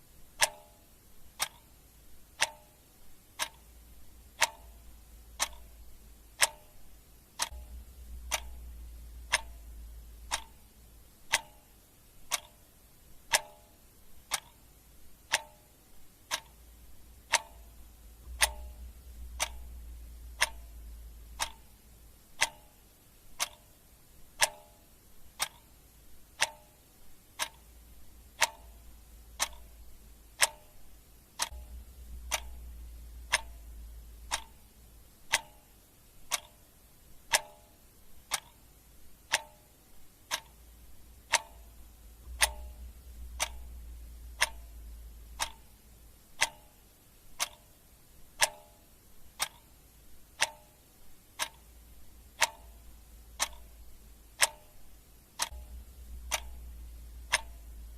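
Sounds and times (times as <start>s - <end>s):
clock ticking: 0.0s - 57.9s
faint low rumble: 0.0s - 57.9s.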